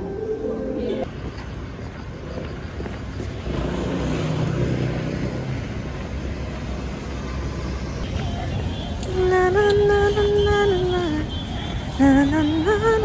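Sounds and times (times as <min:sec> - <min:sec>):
rumble of passing vehicles: 0:00.0 - 0:13.0
vehicle engine: 0:01.0 - 0:13.0.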